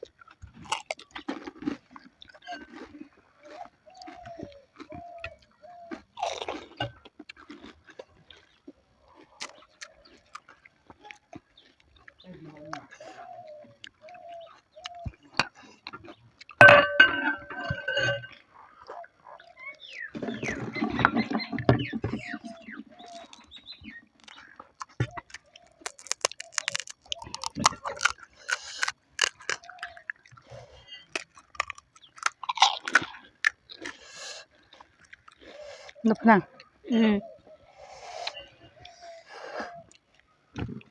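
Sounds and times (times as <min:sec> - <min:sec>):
person chewing crunchy food: 0:00.0 - 0:16.6, 0:18.3 - 0:36.0.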